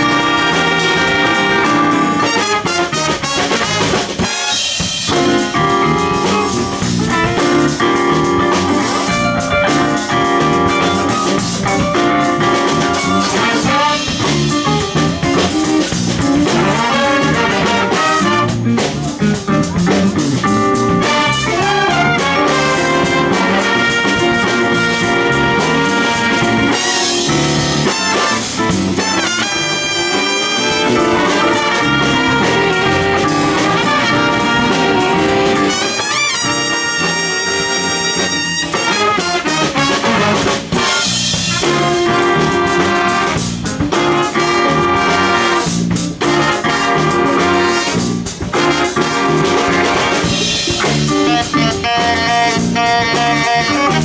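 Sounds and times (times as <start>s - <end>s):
jazz big band playing: 0.0s - 54.0s
trumpets and trombones: 0.0s - 54.0s.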